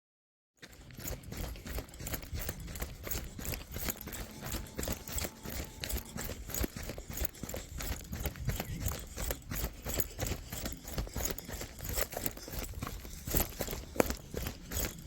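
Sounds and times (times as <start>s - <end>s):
running footsteps on trail: 0.6s - 15.0s.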